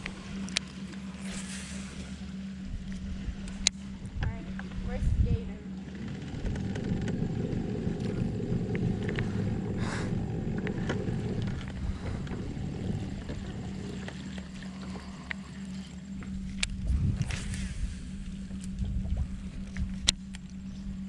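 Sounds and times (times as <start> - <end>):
electric trolling motor humming: 0.0 - 21.0.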